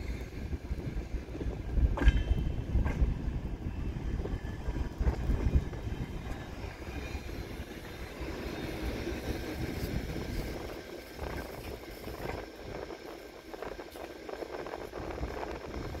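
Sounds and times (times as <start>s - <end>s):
rail clicks: 0.0s - 16.0s
train coaches rumbling on rails: 0.0s - 16.0s.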